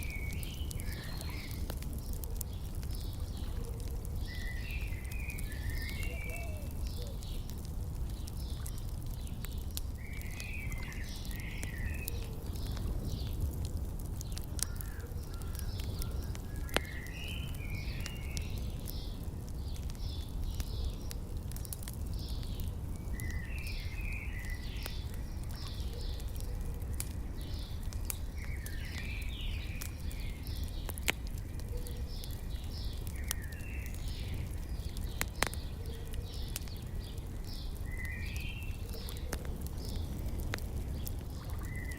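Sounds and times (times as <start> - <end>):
birds singing: 0.0 - 41.9
fire crackling: 0.0 - 41.9.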